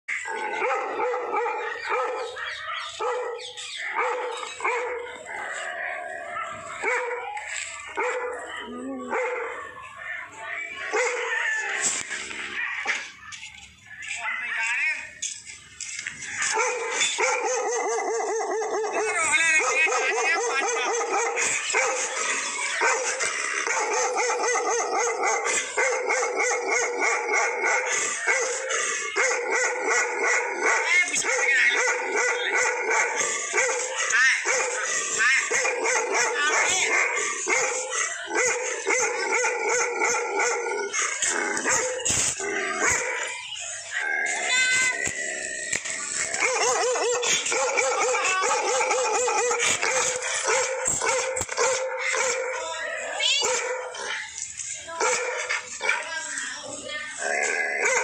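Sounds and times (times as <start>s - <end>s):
dog barking: 0.2s - 11.4s, 16.4s - 43.4s, 46.4s - 54.2s, 54.9s - 56.2s, 57.4s - 58.0s.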